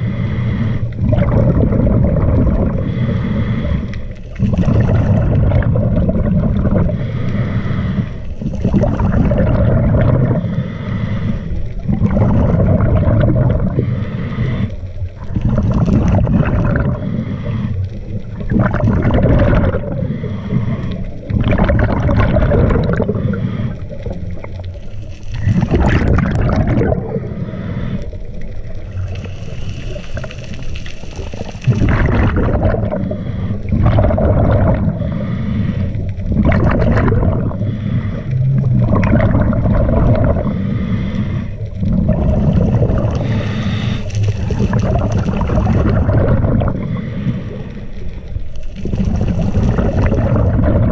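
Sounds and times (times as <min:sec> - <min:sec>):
diver breathing through regulator: 0:00.0 - 0:50.9
bubbles gurgling: 0:00.8 - 0:07.2, 0:08.3 - 0:10.6, 0:11.4 - 0:35.4, 0:36.0 - 0:47.6, 0:48.2 - 0:50.9.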